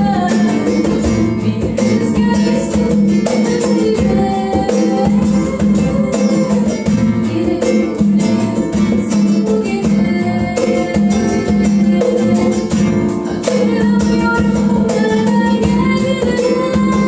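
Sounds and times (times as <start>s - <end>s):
acoustic guitar strumming: 0.0s - 17.0s
hand drum percussion: 0.0s - 17.0s.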